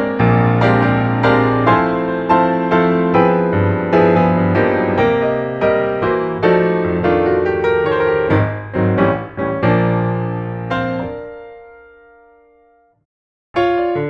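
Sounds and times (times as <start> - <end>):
piano notes: 0.0 - 13.0, 13.6 - 14.0.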